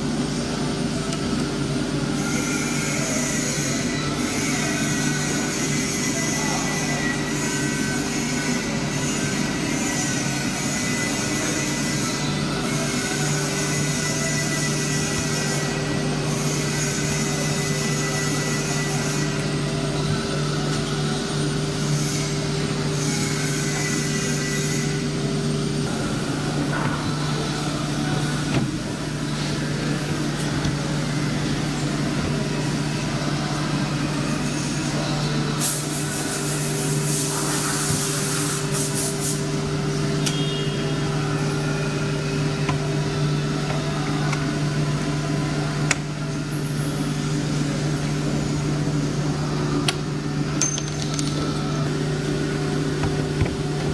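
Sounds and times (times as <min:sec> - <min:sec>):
woodworking machinery humming: 0:00.0 - 0:53.9.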